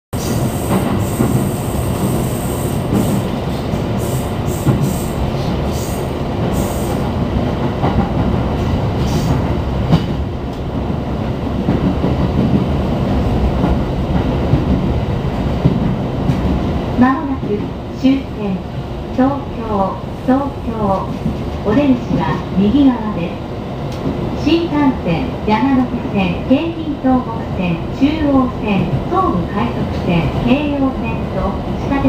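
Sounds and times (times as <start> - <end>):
train wheels rumbling on rail: 0.2 - 32.0.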